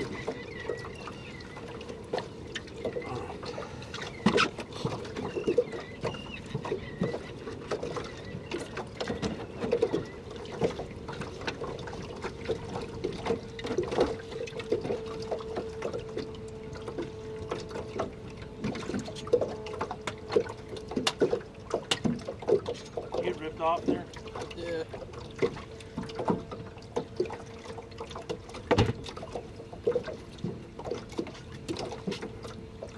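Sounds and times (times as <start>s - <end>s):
waves lapping against boat hull: 0.0s - 32.9s.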